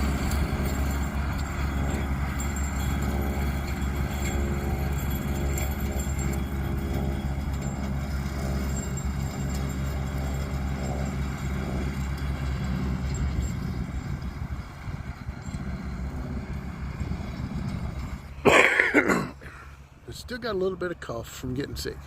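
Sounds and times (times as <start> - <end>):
tractor engine under load: 0.0 - 22.0.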